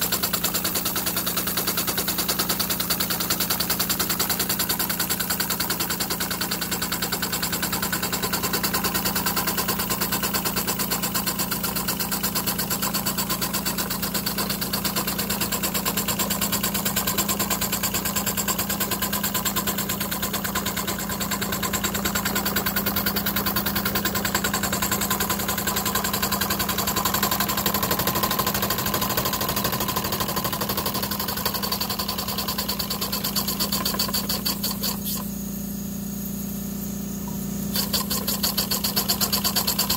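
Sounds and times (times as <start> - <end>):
model steam engine chuffing: 0.0 - 35.2, 37.7 - 39.9.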